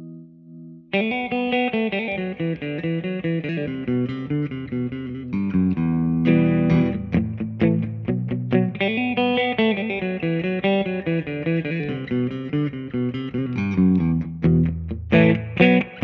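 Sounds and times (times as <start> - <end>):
electric guitar with tremolo: 0.0 - 16.0.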